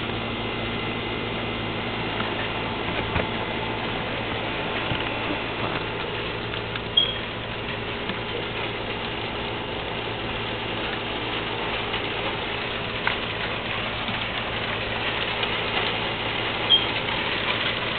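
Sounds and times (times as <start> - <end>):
rain on metal roof: 0.0 - 17.9.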